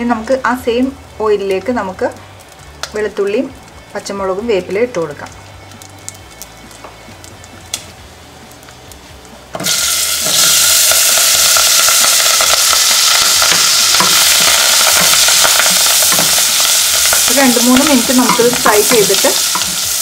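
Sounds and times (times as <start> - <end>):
garlic frying with small crackles: 0.0 - 20.0
loud sizzle of leaves in oil: 0.0 - 20.0.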